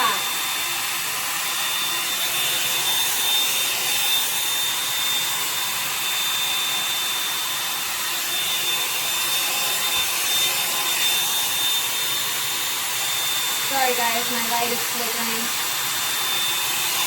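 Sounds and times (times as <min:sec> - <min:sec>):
hair dryer fan blowing with whine: 0:00.0 - 0:17.0.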